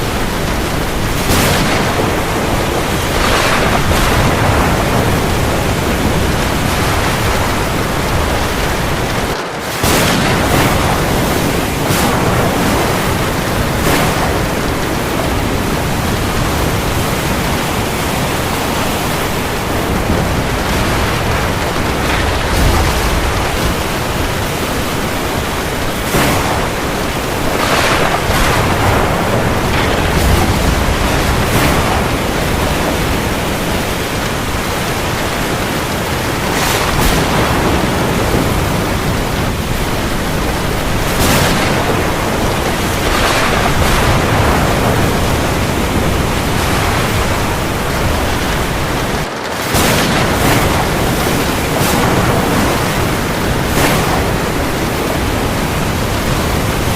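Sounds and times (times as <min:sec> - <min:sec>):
heavy rain falling on sea: 0:00.0 - 0:56.9.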